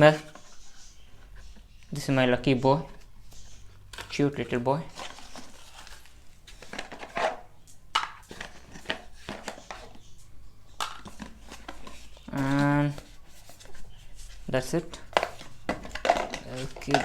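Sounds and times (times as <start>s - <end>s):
box and accessories being handled: 2.8s - 17.0s.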